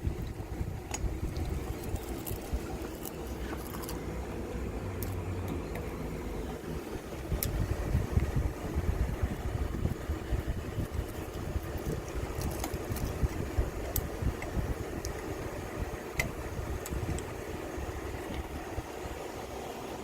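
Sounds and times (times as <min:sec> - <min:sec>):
air buffeting microphone: 0:00.0 - 0:20.0
electric fan rumble: 0:00.0 - 0:20.0.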